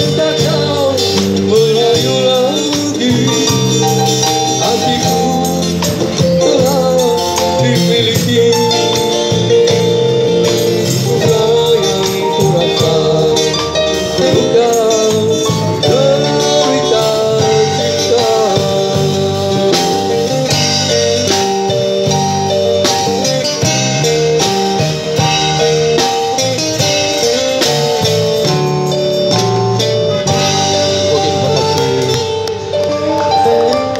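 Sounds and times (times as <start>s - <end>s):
live band playing: 0.0s - 33.9s.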